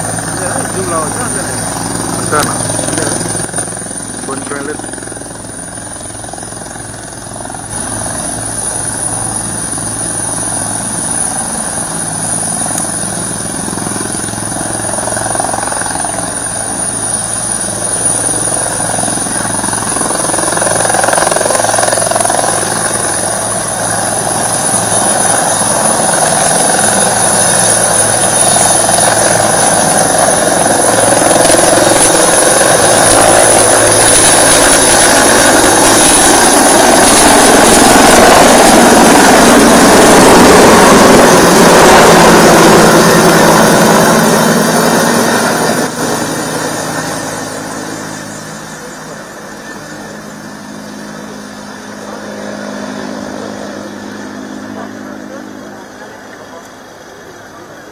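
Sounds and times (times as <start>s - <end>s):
helicopter rotor and engine: 0.0s - 57.9s
steady high whine: 0.0s - 57.9s.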